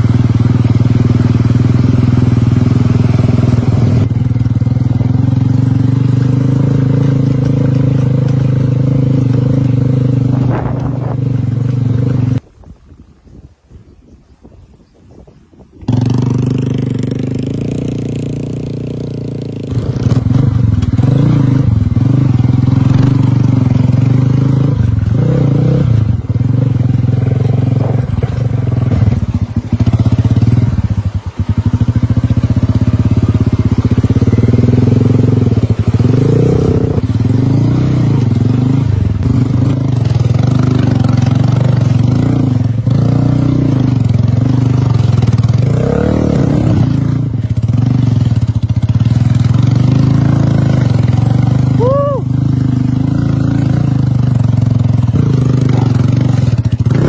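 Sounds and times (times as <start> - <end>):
motorcycle engine running: 0.0 - 12.5, 15.8 - 57.0.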